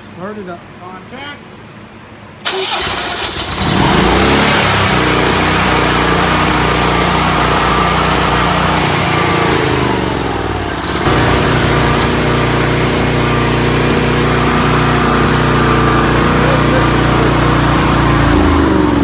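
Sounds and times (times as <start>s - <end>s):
generator engine running: 2.4s - 19.0s.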